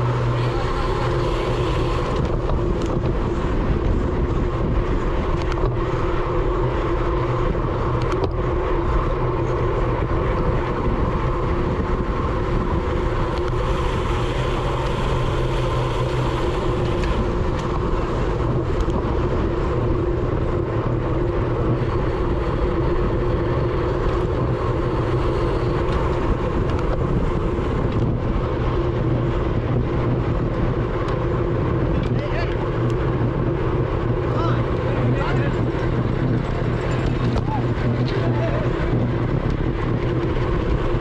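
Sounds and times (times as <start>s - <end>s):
constant hum tones: 0.0s - 41.0s
wind rumbling over camera: 0.0s - 41.0s.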